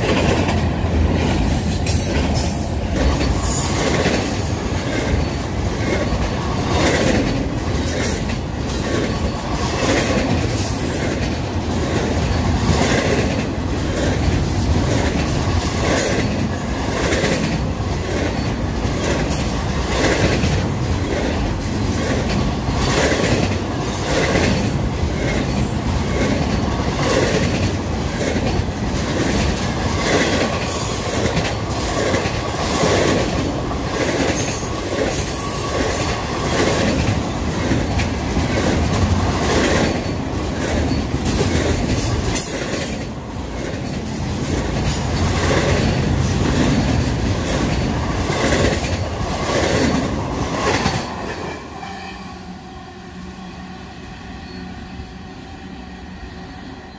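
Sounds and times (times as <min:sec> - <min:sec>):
wheels clacking over rail joints: 0:00.0 - 0:51.6.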